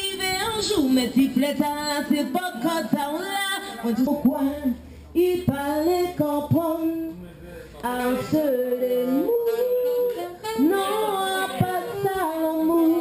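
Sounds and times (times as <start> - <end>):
woman singing into a microphone: 0.0 - 7.2, 7.8 - 13.0
faint band playing: 0.0 - 13.0.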